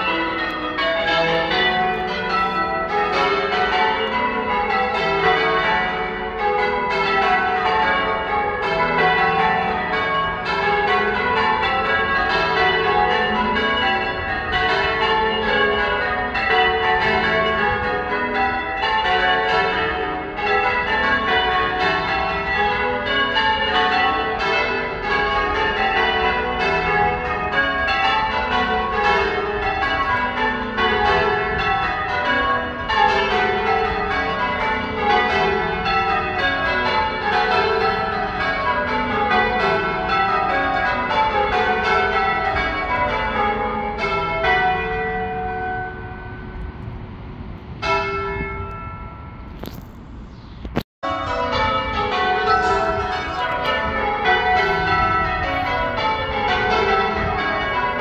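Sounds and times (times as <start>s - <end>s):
church bells ringing: 0.0s - 49.8s, 51.0s - 58.0s.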